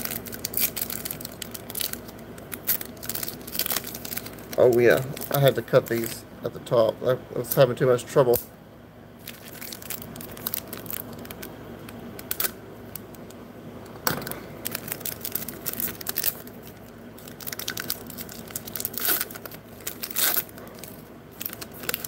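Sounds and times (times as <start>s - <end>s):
plastic wrapper crinkling: 0.0s - 6.2s, 9.2s - 13.4s, 14.3s - 22.0s.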